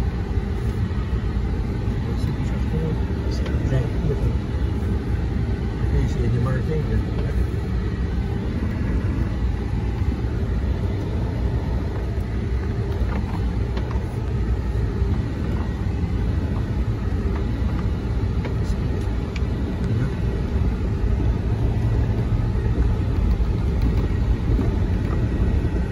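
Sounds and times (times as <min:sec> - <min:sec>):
vehicle engine and tyres rumbling: 0:00.0 - 0:25.9.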